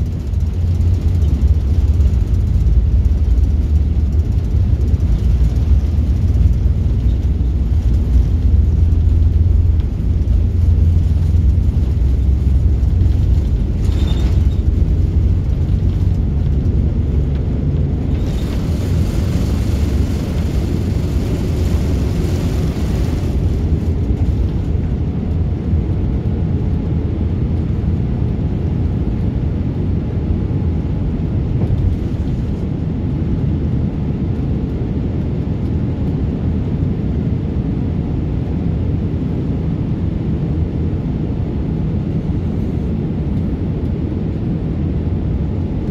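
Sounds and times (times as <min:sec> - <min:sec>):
aircraft engine rumble: 0:00.0 - 0:45.9.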